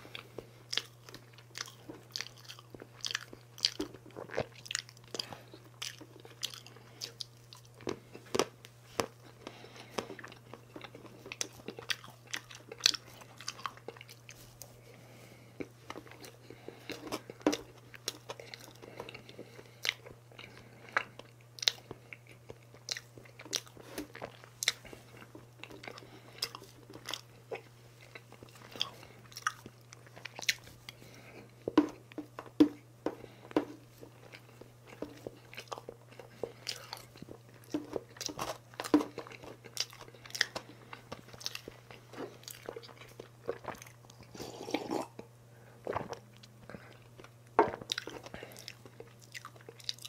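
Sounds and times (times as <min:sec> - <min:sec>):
chewing and crunching cake: 0:00.0 - 0:50.0.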